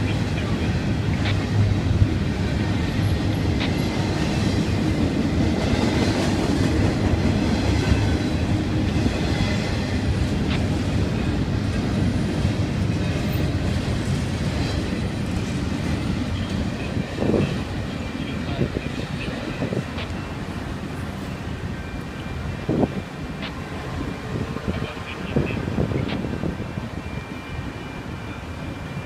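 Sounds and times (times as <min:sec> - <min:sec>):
freight train wheels on rail: 0:00.0 - 0:29.0.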